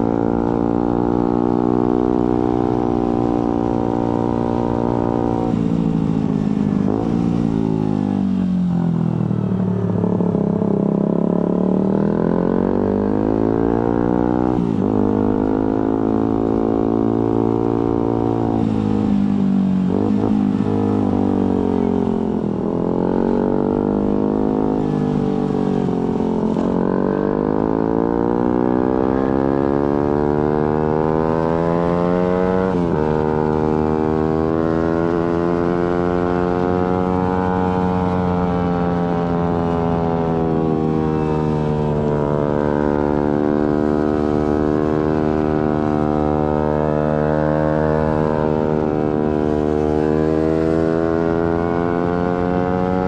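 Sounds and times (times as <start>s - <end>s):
motorcycle engine while riding: 0.0s - 53.0s.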